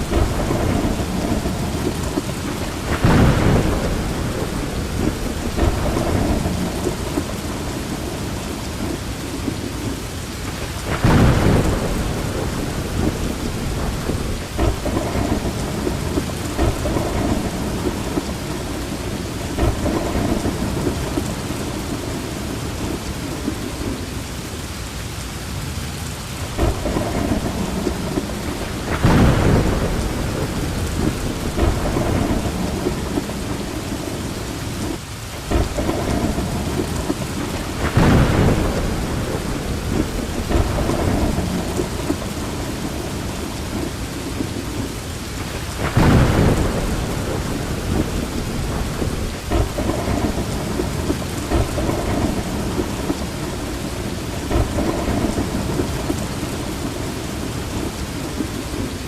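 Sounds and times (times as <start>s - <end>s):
rolling thunder: 0.0s - 24.2s, 26.4s - 59.0s
heavy rain: 0.0s - 59.0s.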